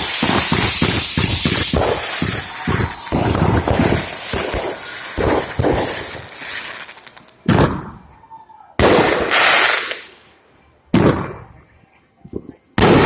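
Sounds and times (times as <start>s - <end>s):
fireworks bangs: 0.0s - 8.1s, 8.8s - 10.2s, 10.9s - 11.6s, 12.3s - 13.0s.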